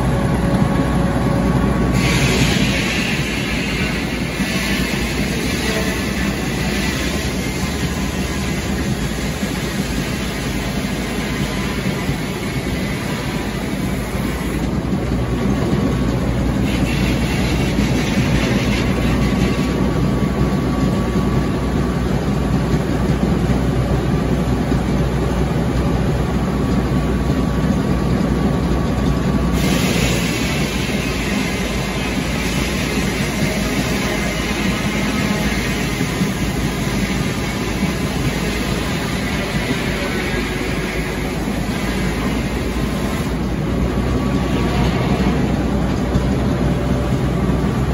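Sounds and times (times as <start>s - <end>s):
faint saw whine: 0.0s - 22.4s, 29.5s - 47.9s
sawmill engine hum: 0.0s - 47.9s.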